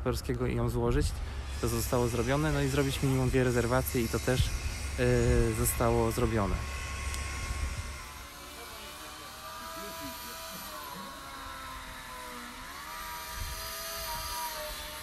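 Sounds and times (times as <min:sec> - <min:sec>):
steady motor drone: 0:00.0 - 0:15.0.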